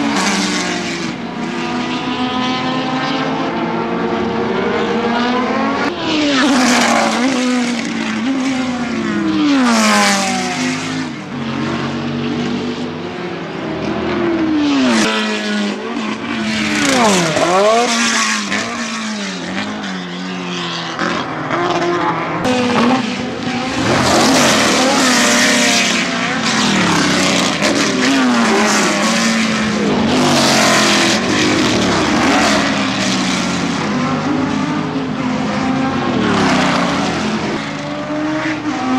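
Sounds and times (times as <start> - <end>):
racing cars passing at speed: 0.0 - 38.9.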